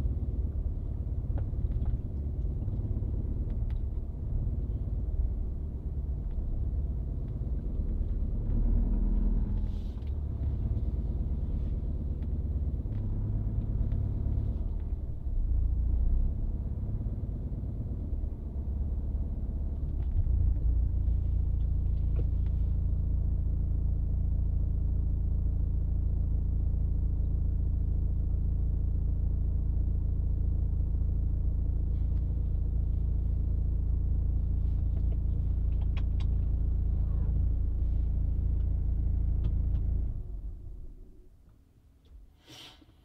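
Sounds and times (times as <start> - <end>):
car engine idling: 0.0 - 41.6.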